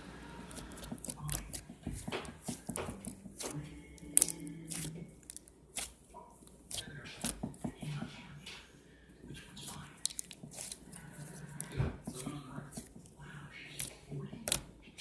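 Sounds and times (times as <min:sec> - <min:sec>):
slime squishing and crackling: 0:00.5 - 0:07.6, 0:09.6 - 0:15.0.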